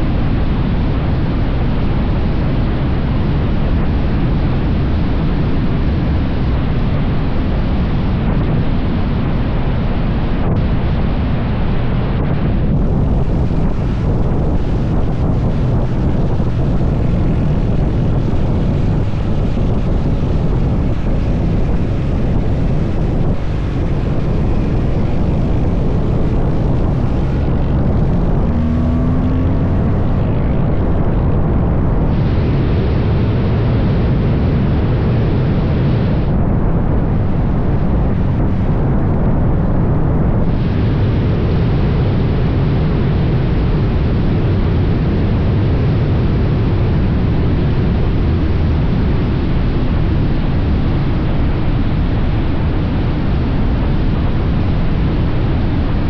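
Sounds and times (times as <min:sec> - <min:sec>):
motorcycle engine and wind rush: 0:00.0 - 0:56.0.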